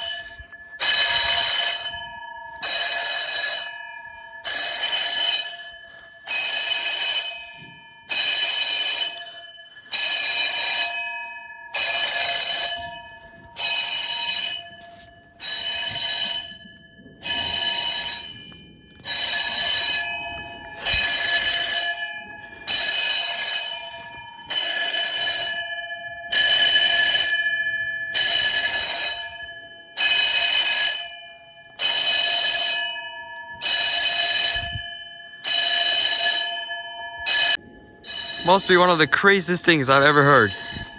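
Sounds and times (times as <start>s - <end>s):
fire alarm bells ringing: 0.0s - 40.9s.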